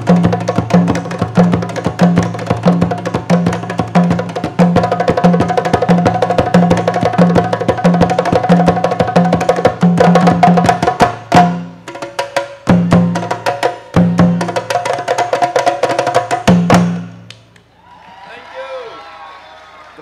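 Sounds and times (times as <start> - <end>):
hand drums playing fast rhythm: 0.0 - 17.2.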